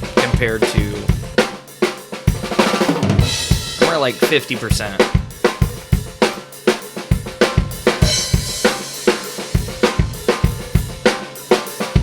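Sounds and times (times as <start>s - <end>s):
drum kit playing a steady beat: 0.0s - 12.0s.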